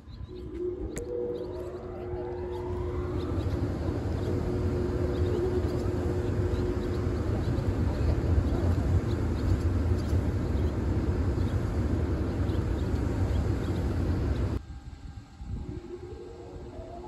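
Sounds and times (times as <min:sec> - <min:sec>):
cooling blowers whooshing: 0:00.0 - 0:17.0
faint hum: 0:00.0 - 0:17.0.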